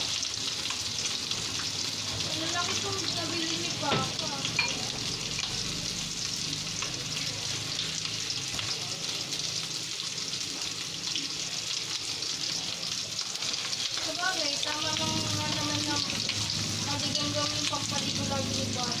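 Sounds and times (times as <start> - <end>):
fish frying in hot oil: 0.0 - 19.0.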